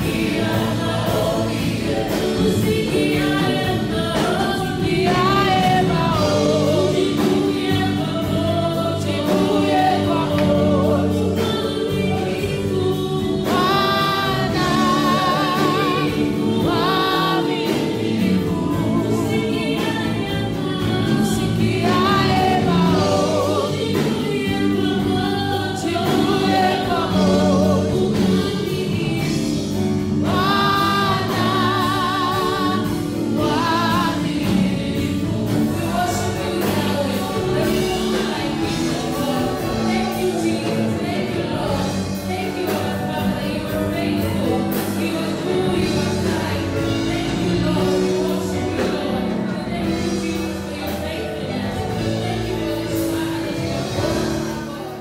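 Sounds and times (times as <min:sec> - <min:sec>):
congregation singing gospel song: 0:00.0 - 0:55.0
keyboard chords: 0:00.0 - 0:55.0.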